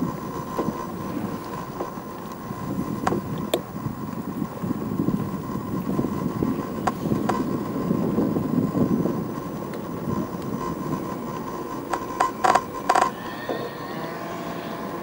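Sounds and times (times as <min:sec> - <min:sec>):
bicycle rolling rumble: 0:00.0 - 0:15.0
thin steady whine: 0:00.0 - 0:15.0
wind buffeting microphone: 0:00.0 - 0:15.0.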